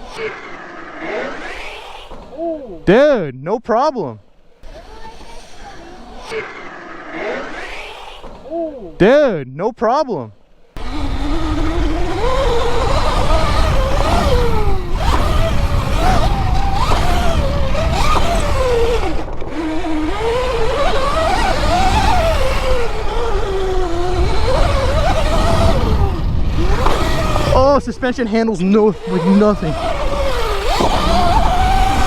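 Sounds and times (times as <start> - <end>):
electric motorbike motor whining: 0.0 - 2.9, 4.6 - 8.5, 10.8 - 32.0.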